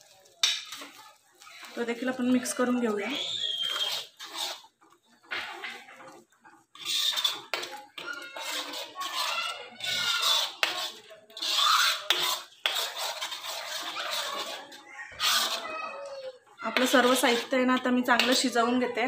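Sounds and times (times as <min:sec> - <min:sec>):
spatula scraping metal pan: 0:00.2 - 0:19.0.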